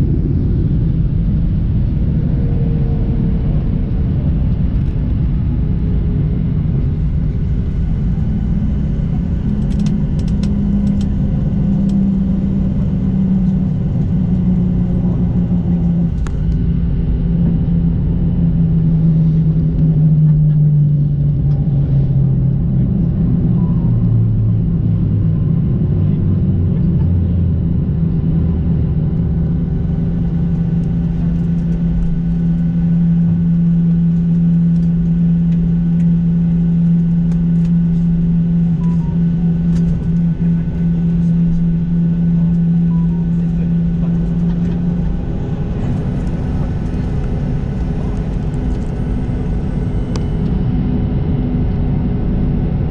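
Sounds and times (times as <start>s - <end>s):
jet engine hum: 0.0s - 52.9s.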